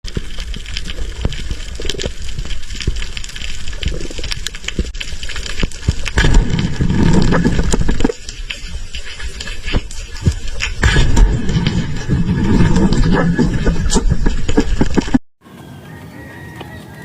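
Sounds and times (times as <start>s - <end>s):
water sloshing and churning: 0.1s - 15.2s.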